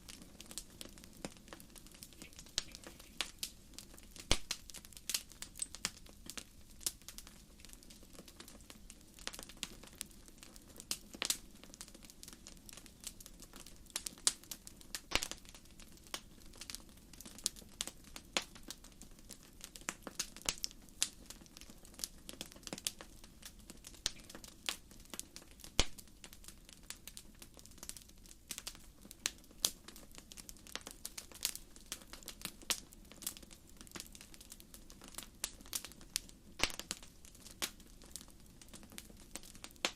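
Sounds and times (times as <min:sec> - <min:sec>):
campfire logs popping: 0:00.0 - 0:39.9
low roar of burning fire: 0:00.0 - 0:39.9.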